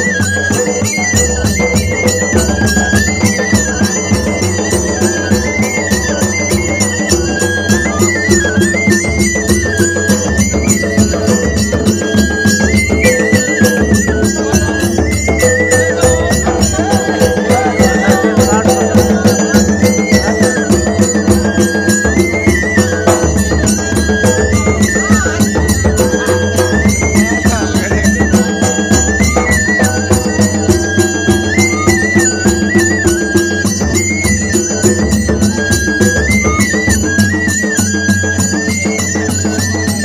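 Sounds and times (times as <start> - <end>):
reedy wind instrument melody: 0.0 - 40.0
steady drumbeat: 0.0 - 40.0.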